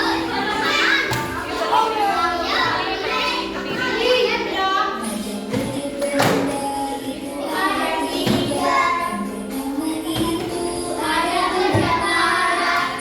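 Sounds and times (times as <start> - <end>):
children singing with music: 0.0 - 13.0.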